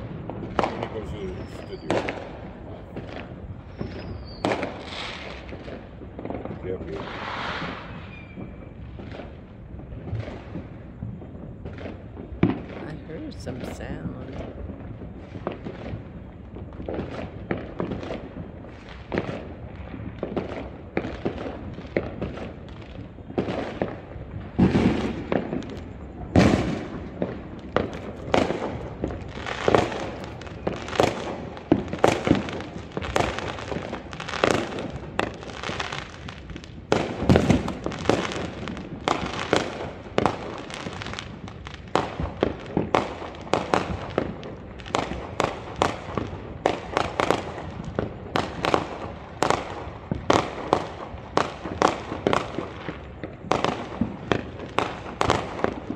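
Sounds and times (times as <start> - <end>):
deep firework booms: 0.0 - 55.9
fireworks bangs and crackling: 0.0 - 55.9.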